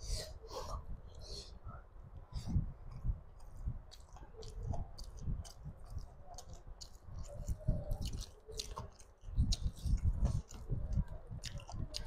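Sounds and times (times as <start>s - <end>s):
wet chewing: 2.3s - 12.0s.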